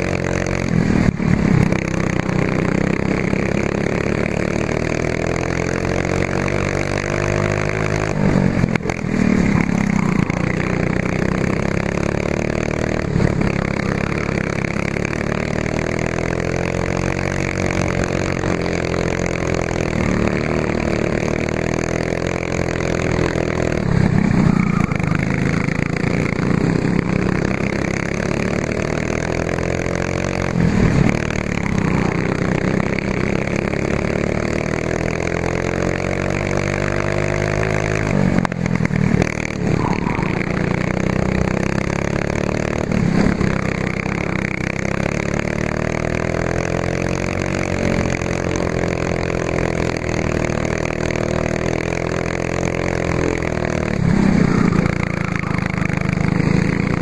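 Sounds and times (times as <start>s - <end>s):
racing kart engine revving: 0.0s - 57.0s.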